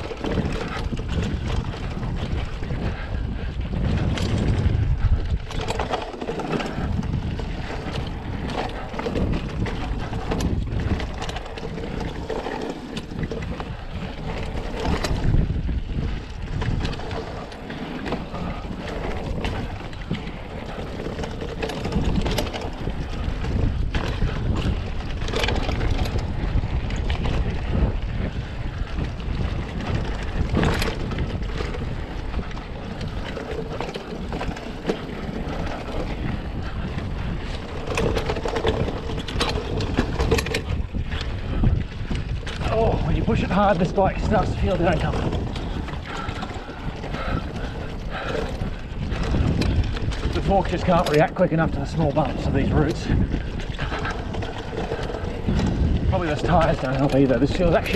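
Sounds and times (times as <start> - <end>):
bike clicks knocks and rattles: 0.0 - 57.9
tyres rumbling on dirt trail: 0.0 - 57.9
wind buffeting microphone: 0.0 - 57.9.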